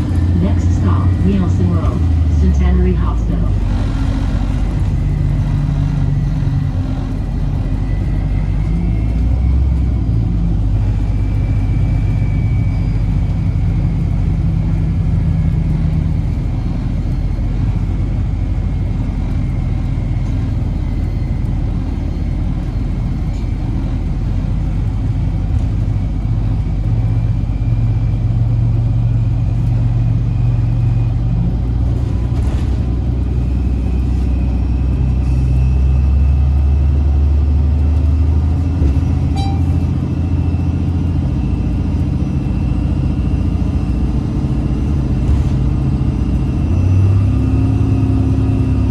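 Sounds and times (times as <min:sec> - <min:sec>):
bus engine drone: 0:00.0 - 0:48.9.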